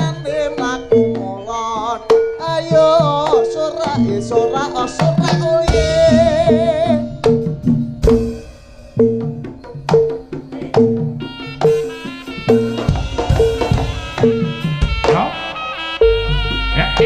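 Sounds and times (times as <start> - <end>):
hand drums: 0.0 - 17.0
wavering vibrato melody: 0.0 - 17.0.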